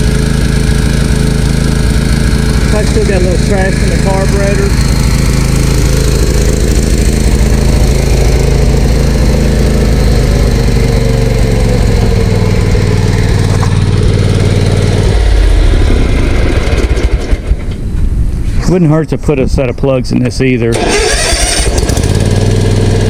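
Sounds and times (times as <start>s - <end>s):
lawn mower engine running: 0.0s - 19.8s, 20.4s - 23.0s.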